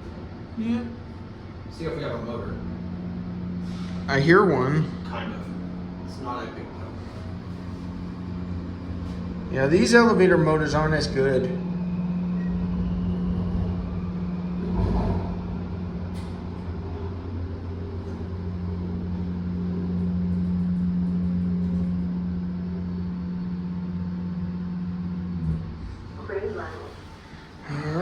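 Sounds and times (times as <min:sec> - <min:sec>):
elevator motor humming: 0:00.0 - 0:28.0.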